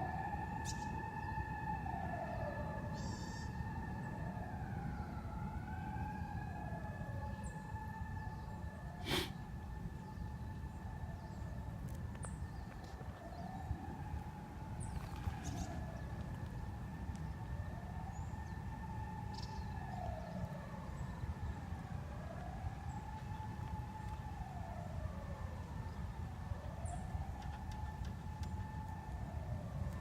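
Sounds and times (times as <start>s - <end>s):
ambulance siren wailing: 0.0s - 30.0s.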